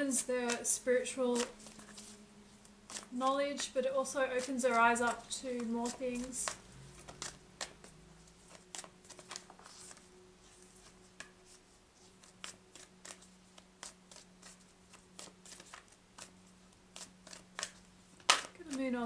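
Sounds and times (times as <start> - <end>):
low steady hum: 0.0 - 19.0
cards being shuffled by hand: 0.1 - 19.0.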